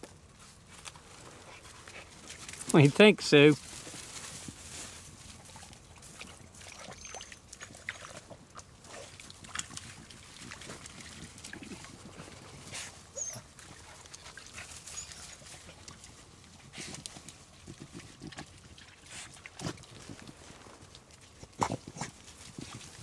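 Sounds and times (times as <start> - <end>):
dogs snuffling: 0.1 - 3.0, 3.6 - 23.0.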